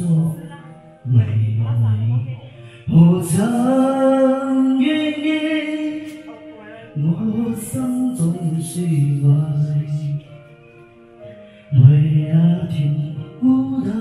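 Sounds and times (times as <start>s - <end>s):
person singing slow song: 0.0s - 14.0s.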